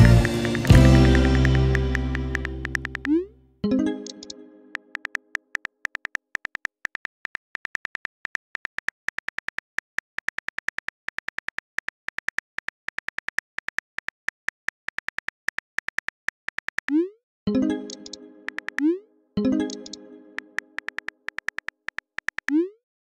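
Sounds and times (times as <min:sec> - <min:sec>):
phone keyboard clicks: 0:00.2 - 0:03.2, 0:04.1 - 0:17.0, 0:17.9 - 0:18.9, 0:19.7 - 0:22.6.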